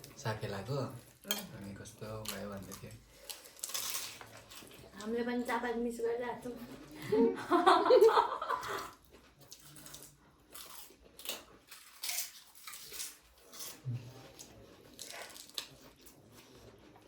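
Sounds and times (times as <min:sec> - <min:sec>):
chewing and crunching food: 0:00.0 - 0:05.8, 0:08.4 - 0:17.0.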